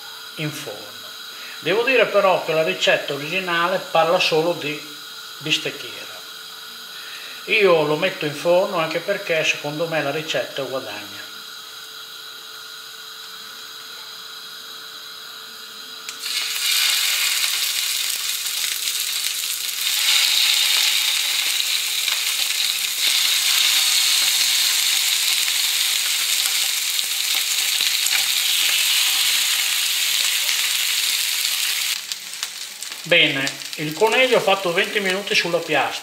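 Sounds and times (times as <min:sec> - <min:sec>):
meat sizzling in hot oil: 0:00.0 - 0:36.0.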